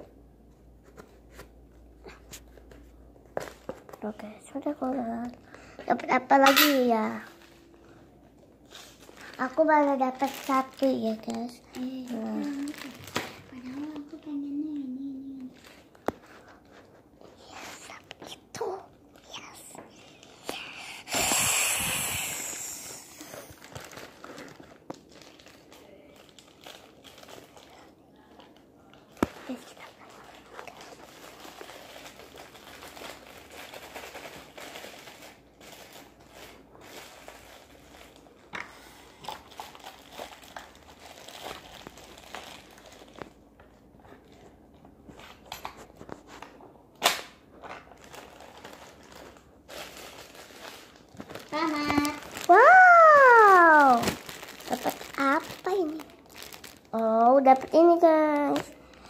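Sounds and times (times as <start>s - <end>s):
crinkling and rustling: 0.0s - 20.6s, 23.2s - 59.0s.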